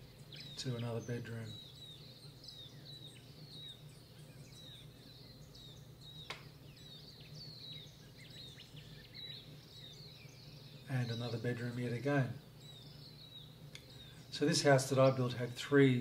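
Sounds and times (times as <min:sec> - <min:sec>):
faint birds chirping: 0:00.0 - 0:16.0
low steady hum: 0:00.0 - 0:16.0.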